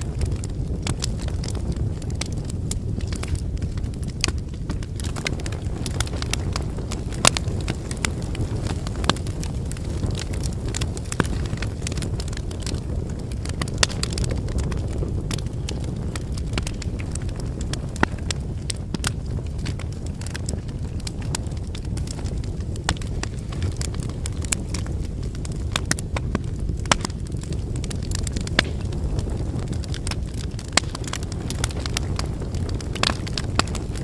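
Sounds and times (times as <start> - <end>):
campfire flames rumbling: 0.0 - 34.0
logs crackling and popping: 0.0 - 34.0.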